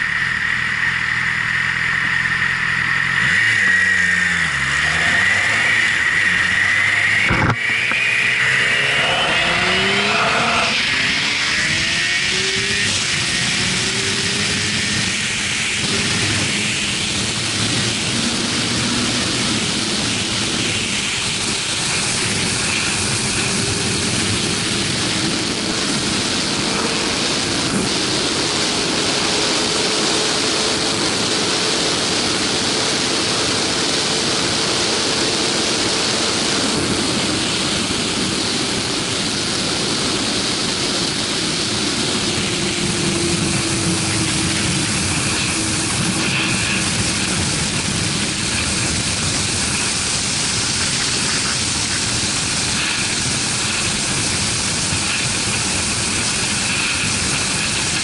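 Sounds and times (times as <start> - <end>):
motorcycle engine cruising: 0.0 - 58.0
wind rushing at highway speed: 0.0 - 58.0.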